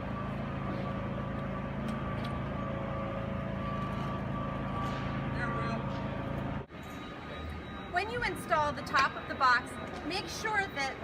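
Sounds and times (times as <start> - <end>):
faint steady tones: 0.0 - 11.0.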